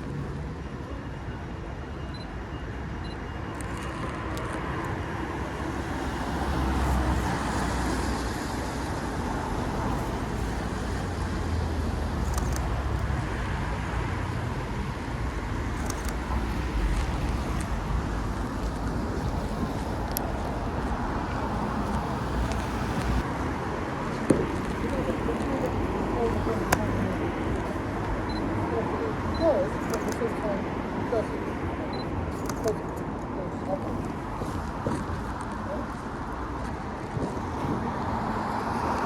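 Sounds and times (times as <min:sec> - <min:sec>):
cars passing with tyre hiss: 0:02.4 - 0:39.0.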